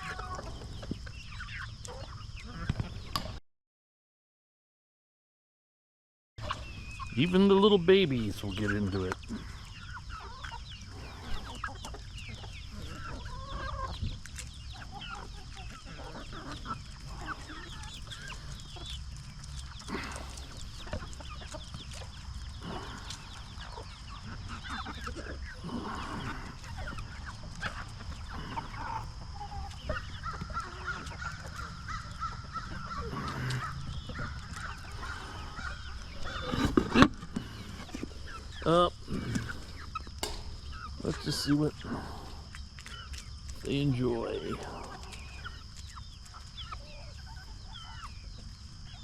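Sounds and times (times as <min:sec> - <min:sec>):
chickens clucking: 0:00.0 - 0:03.4, 0:06.4 - 0:49.0
chicks peeping: 0:00.0 - 0:03.4, 0:06.4 - 0:49.0.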